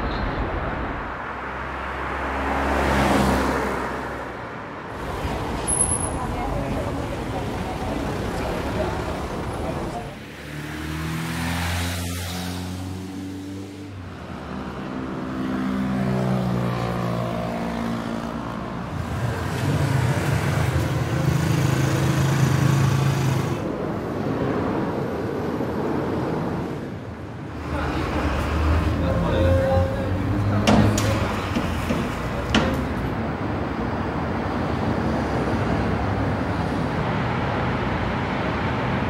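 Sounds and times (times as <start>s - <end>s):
road noise: 0.0s - 39.0s
vehicle engines passing: 0.0s - 39.0s.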